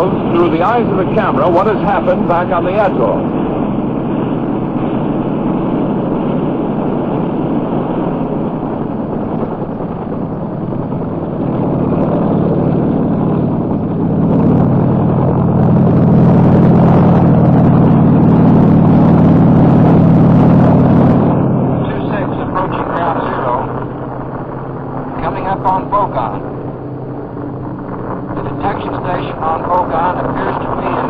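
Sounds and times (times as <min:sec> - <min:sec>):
helicopter engine and rotors: 0:00.0 - 0:31.0.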